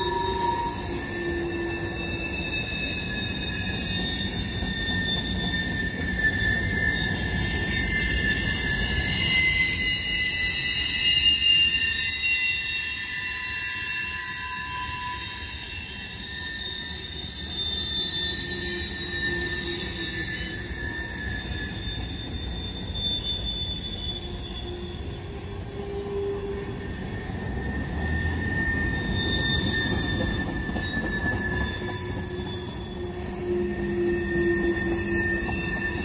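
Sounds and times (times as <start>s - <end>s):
train wheels squealing: 0.0s - 36.0s.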